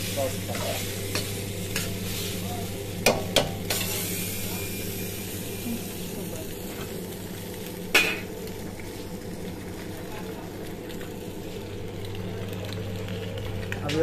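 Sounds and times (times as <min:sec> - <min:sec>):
food sizzling in a wok: 0:00.0 - 0:13.8
steady low hum: 0:00.0 - 0:14.0.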